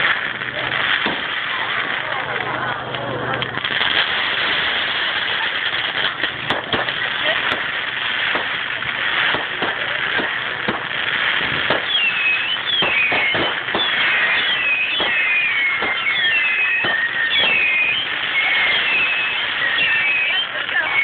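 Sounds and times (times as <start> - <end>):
fireworks bangs and crackles: 0.0 - 21.0
fireworks whistling: 0.0 - 21.0.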